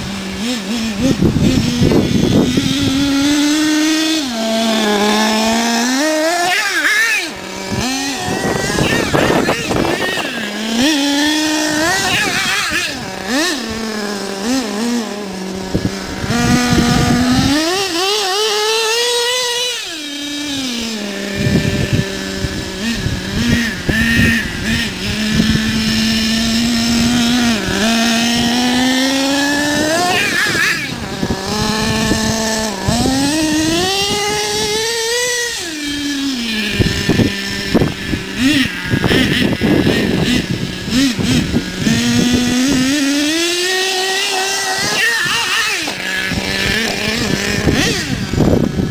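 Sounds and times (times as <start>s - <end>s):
small engine buzzing and revving: 0.0s - 48.9s.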